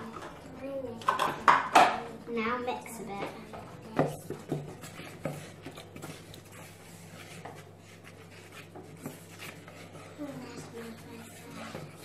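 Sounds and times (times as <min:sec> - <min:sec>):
spoons scraping mix in bowls: 0:00.0 - 0:12.0.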